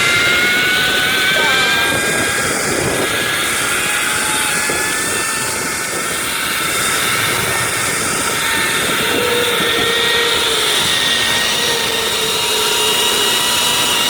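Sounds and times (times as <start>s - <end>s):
wind rushing: 0.0s - 13.5s
zipline pulleys whirring on cable: 0.0s - 14.0s.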